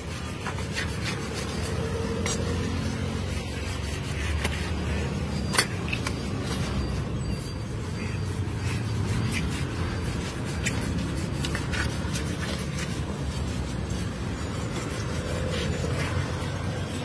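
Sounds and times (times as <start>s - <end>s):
knife scraping fish scales: 0.0s - 17.0s.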